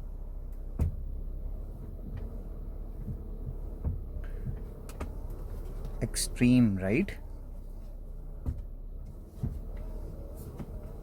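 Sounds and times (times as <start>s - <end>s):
low steady steering hum: 0.0s - 11.0s
soft low thumps: 0.0s - 11.0s.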